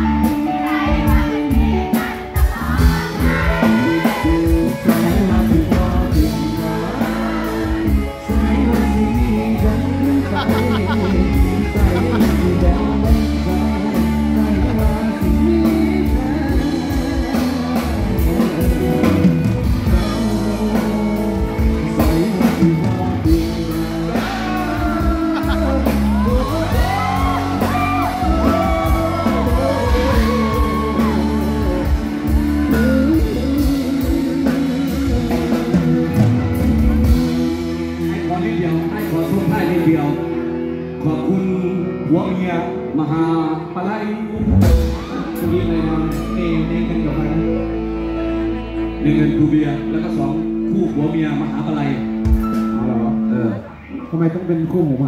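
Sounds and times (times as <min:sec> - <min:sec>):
man singing into a microphone: 0:00.0 - 0:54.6
guitar: 0:00.0 - 0:55.0
live band music: 0:00.0 - 0:55.0.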